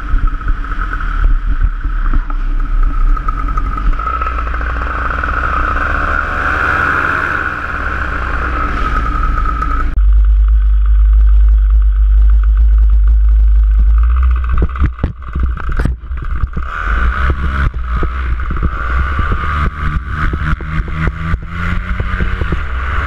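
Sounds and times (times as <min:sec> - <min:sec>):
irregular thumps and clatter: 0:00.0 - 0:07.0, 0:07.6 - 0:23.0
paramotor engine running: 0:00.0 - 0:23.0.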